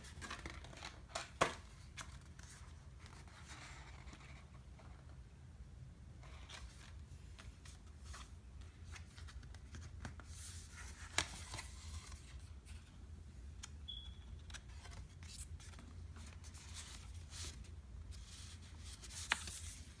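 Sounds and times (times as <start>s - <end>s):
paper and book rustling: 0.0s - 5.2s, 6.2s - 13.0s, 14.4s - 20.0s.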